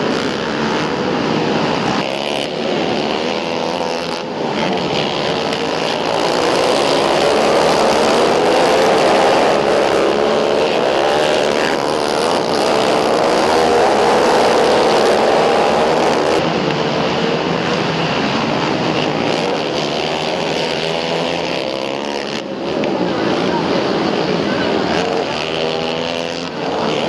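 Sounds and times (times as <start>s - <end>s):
racing quad engines: 0.0s - 27.0s.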